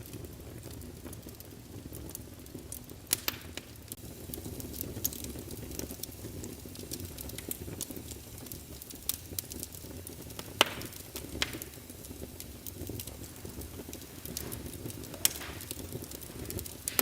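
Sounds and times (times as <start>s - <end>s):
loud pop of fire: 0.0s - 17.0s
wood fire crackling: 0.0s - 17.0s.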